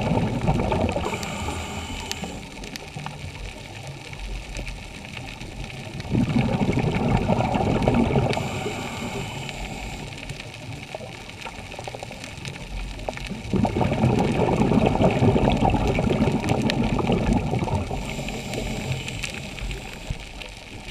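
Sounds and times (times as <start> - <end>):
exhaled bubbles underwater: 0.0 - 20.9.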